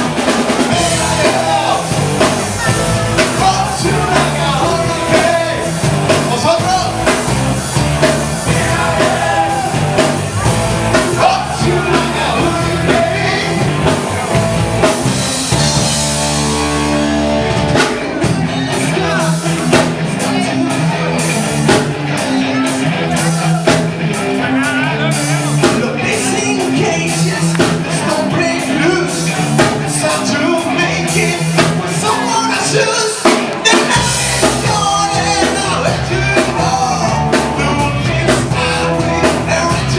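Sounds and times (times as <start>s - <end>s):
live rock band playing: 0.0s - 39.9s
person singing: 0.6s - 15.7s, 17.8s - 39.9s.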